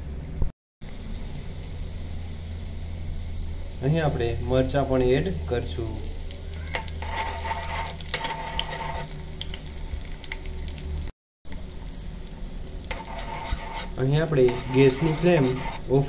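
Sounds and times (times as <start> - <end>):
spices sizzling in hot oil: 0.9 - 16.0.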